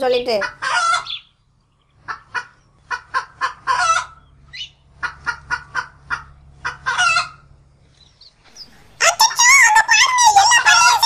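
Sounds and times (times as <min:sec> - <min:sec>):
hen clucking: 0:00.3 - 0:01.4, 0:02.0 - 0:07.5, 0:08.5 - 0:11.0.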